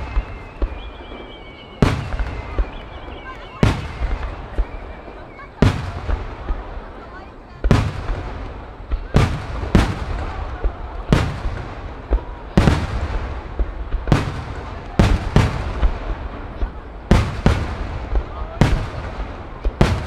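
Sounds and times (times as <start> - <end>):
firework shells booming: 0.0 - 20.0.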